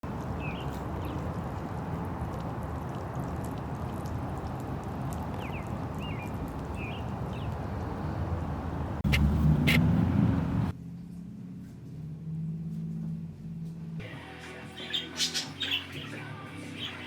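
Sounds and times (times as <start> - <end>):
low rumbling background noise: 0.0 - 14.4.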